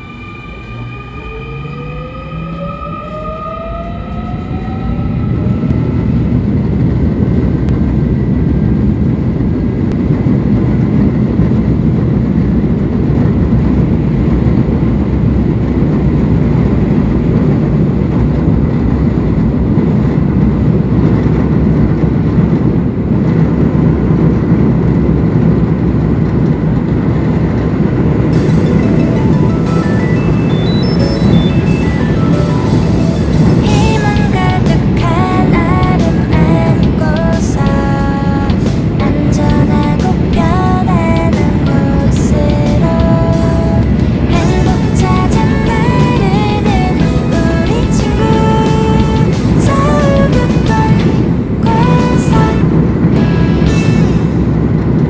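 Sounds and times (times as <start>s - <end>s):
subway train motor whine: 0.0s - 55.0s
train running rumble: 0.0s - 55.0s.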